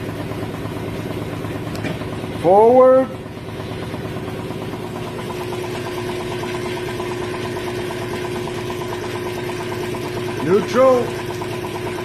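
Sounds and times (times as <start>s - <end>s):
transmission mechanical hum: 0.0s - 12.0s.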